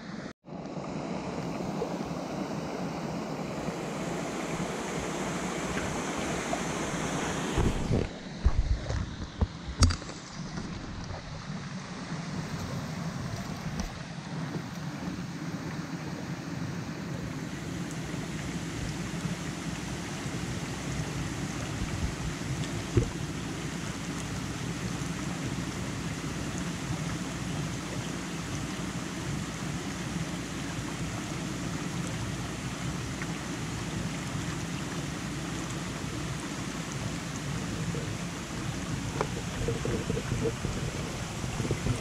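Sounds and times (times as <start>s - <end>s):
stream flowing over stones: 0.5s - 42.0s.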